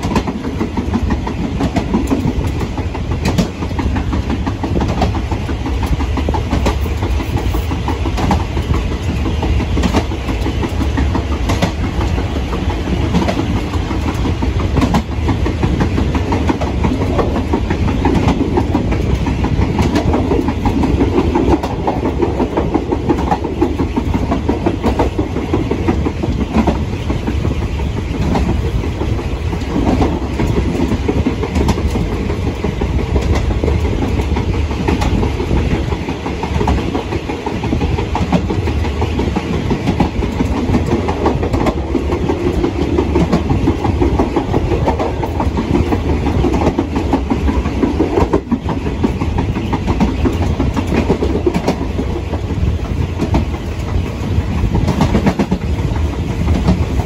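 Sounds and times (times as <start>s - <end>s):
rail joint clicks and clatter: 0.0s - 57.0s
train wheels rumbling on rail: 0.0s - 57.0s.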